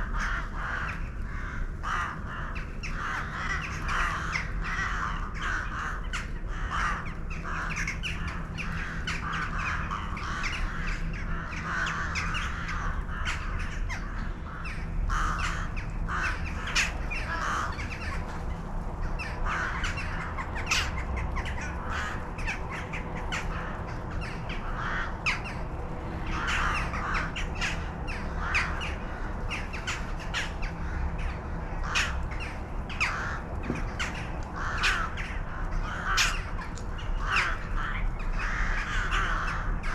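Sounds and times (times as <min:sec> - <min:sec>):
flock of birds calling: 0:00.0 - 0:39.9
low steady hum: 0:00.0 - 0:39.9.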